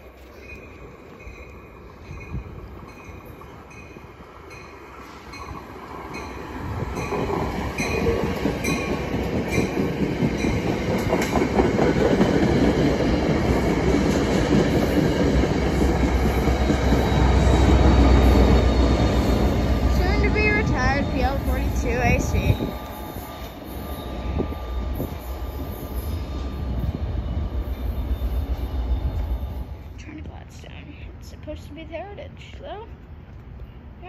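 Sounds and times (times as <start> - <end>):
train coaches clattering: 0.0 - 30.7
diesel locomotive rumble: 0.0 - 33.7.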